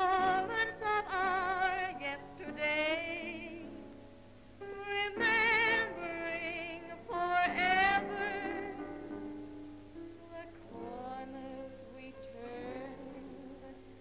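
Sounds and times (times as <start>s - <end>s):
woman singing with vibrato: 0.0s - 3.8s, 4.6s - 9.0s, 10.2s - 14.0s.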